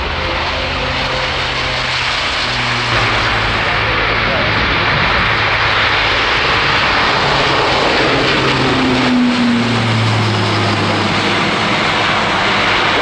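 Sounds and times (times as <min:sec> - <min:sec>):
turboprop engines roaring: 0:00.0 - 0:13.0.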